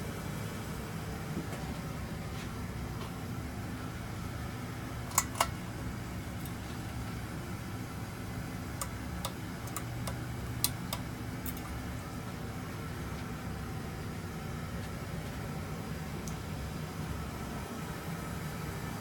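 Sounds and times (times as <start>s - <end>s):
ceiling fan humming: 0.0s - 19.0s.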